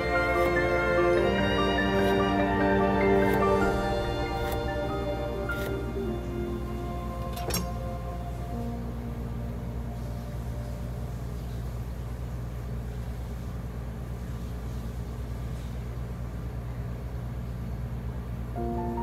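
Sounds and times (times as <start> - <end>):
kitchen equipment hum: 0.0 - 19.0.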